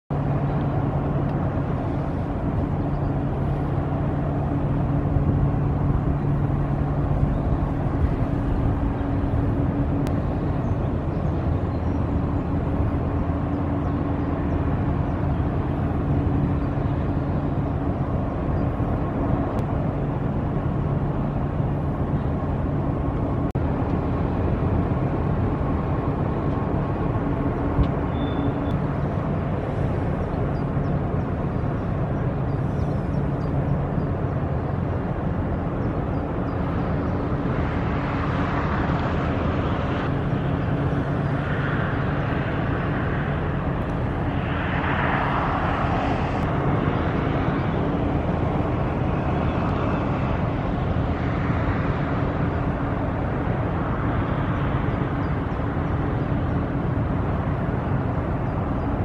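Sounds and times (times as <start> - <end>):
rushing noise: 0.1 - 59.0
ship diesel engine droning: 0.1 - 59.0.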